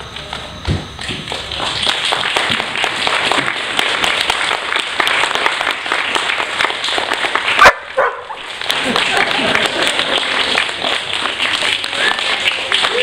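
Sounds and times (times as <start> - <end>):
audience applauding: 1.0 - 13.0.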